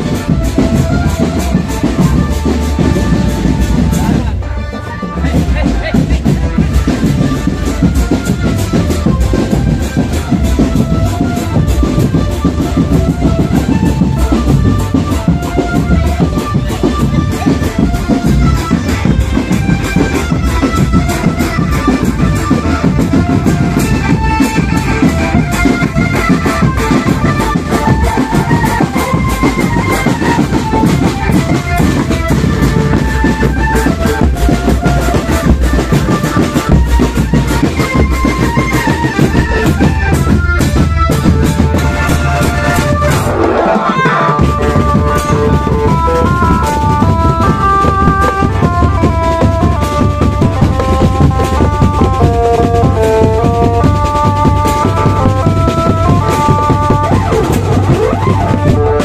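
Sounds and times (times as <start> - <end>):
marching drums beating: 0.0 - 59.0.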